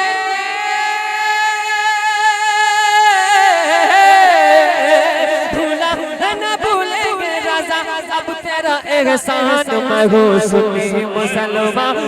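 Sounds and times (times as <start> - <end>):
man singing ornamented notes: 0.0 - 12.0.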